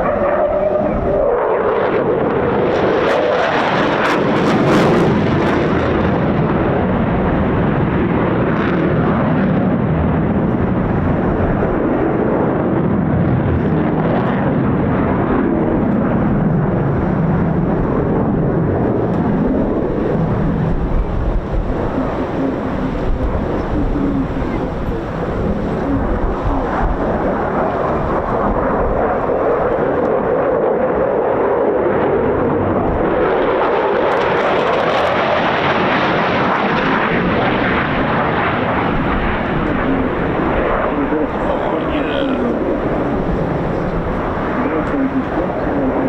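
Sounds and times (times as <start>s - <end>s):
loud jet engine roar: 0.0s - 46.0s.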